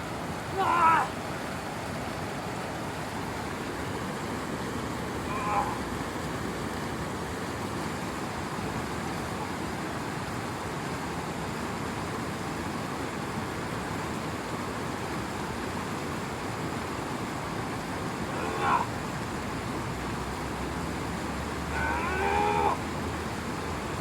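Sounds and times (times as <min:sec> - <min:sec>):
rushing outdoor noise: 0:00.0 - 0:24.0.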